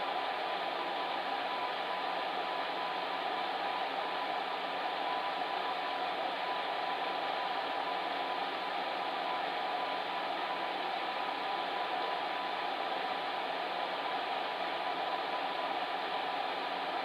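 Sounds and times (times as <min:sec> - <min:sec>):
faint constant hum: 0:00.0 - 0:17.0.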